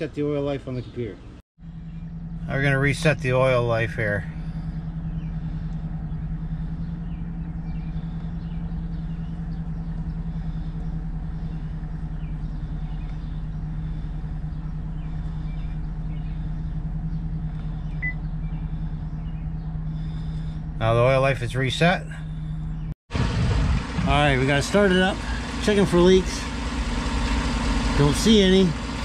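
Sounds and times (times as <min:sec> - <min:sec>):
pickup engine idling: 0:01.6 - 0:29.0.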